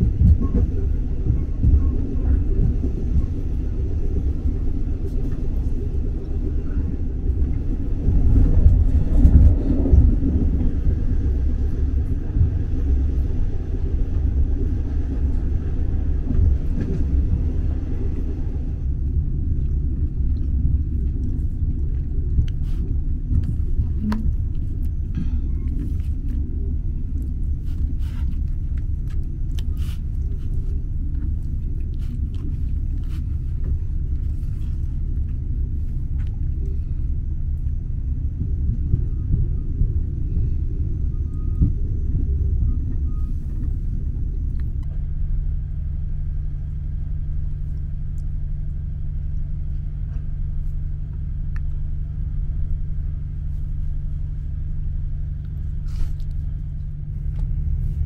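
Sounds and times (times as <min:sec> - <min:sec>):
steady low hum: 0:00.0 - 0:58.0
train carriage rumble: 0:00.0 - 0:58.0.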